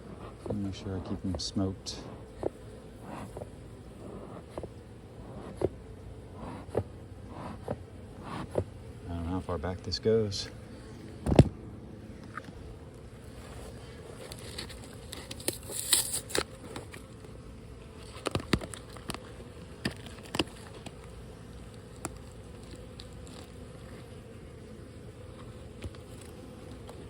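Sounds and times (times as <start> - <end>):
honeybee colony buzzing: 0.0 - 27.0.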